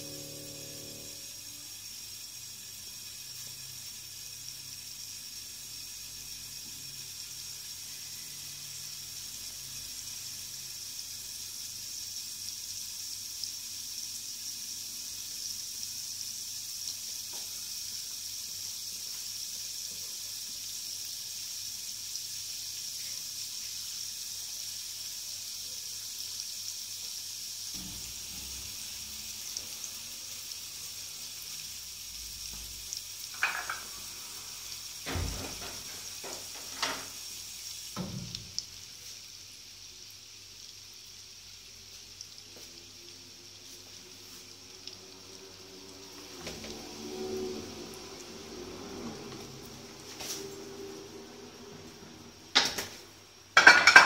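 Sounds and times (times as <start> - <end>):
butter sizzling in a frying pan: 0.0 - 54.0.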